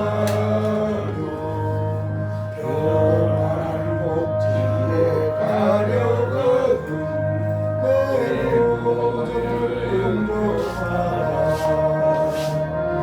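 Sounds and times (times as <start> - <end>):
church keyboard music: 0.0 - 13.0.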